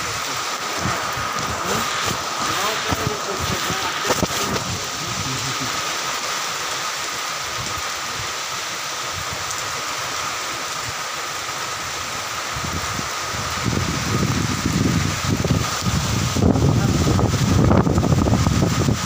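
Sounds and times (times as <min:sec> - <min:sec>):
steady rain on leaves: 0:00.0 - 0:19.0.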